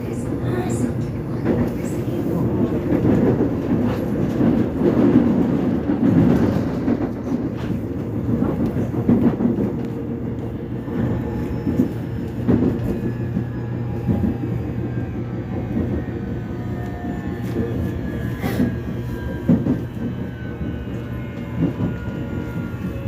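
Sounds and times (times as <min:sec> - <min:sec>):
knocks and clacks from train car: 0:00.0 - 0:23.0
train wheels rumbling on track: 0:00.0 - 0:23.0.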